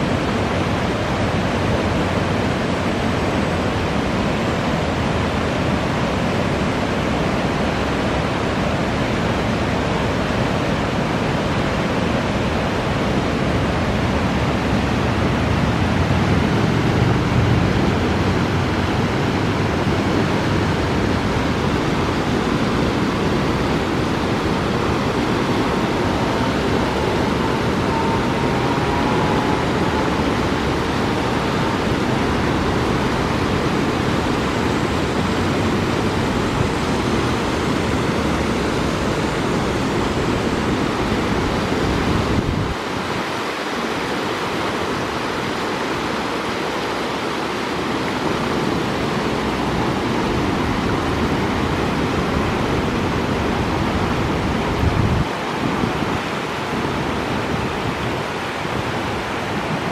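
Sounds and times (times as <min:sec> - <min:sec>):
river water rushing over rapids: 0:00.0 - 0:59.9.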